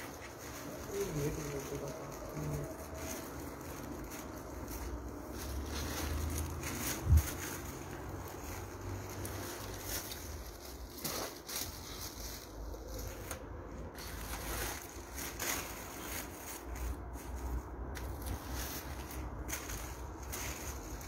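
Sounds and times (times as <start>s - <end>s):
paper rustling and crackling: 0.0s - 21.0s.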